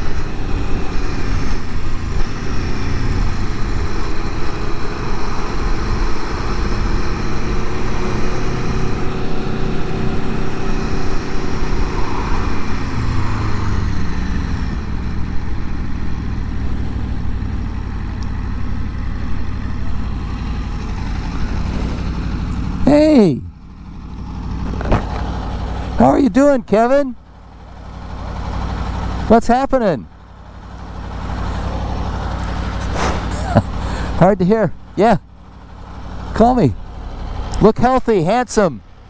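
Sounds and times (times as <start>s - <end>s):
motorcycle engine while riding: 0.0s - 39.0s.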